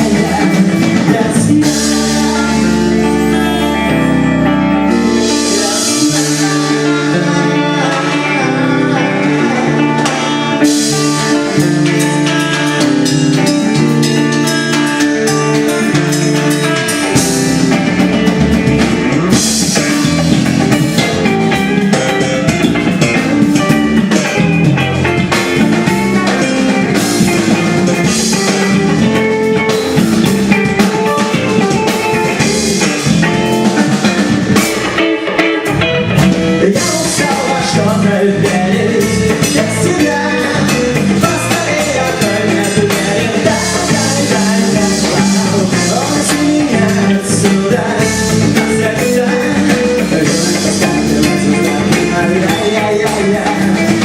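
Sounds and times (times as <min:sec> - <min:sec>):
rock band playing: 0:00.0 - 0:54.0
sustained guitar chords: 0:00.0 - 0:54.0.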